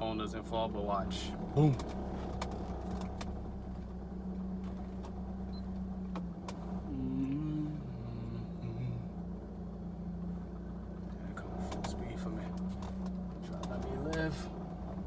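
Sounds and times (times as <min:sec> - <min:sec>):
car engine hum inside cabin: 0:00.0 - 0:15.0.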